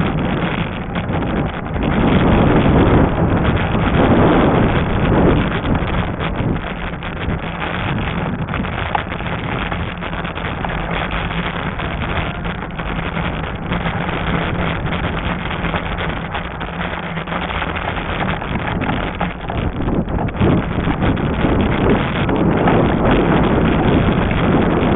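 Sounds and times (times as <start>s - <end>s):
bike tyre and riding noise: 0.0s - 24.9s
steady low hum: 0.0s - 24.9s
wind buffeting microphone: 0.0s - 24.9s.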